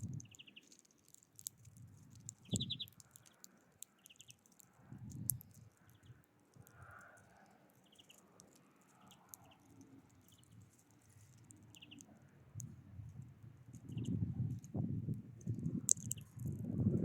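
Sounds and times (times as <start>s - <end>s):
small birds calling: 0.0s - 12.4s, 13.6s - 14.6s, 15.8s - 16.5s
faint clicks: 0.0s - 16.7s.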